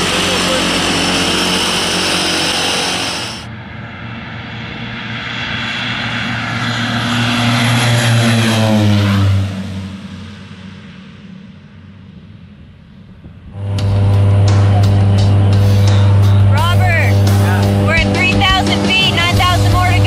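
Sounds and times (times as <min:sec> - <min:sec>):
propeller airplane flying past: 0:00.0 - 0:20.0.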